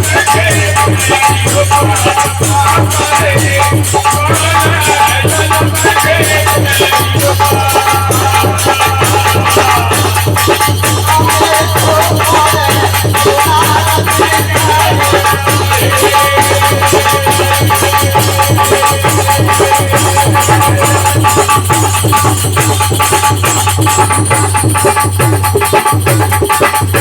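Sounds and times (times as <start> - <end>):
rapid rattling percussion: 0.0 - 27.0.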